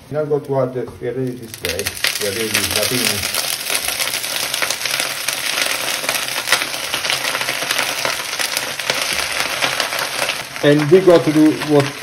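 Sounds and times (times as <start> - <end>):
oil sizzling and spattering in pan: 1.2 - 12.0.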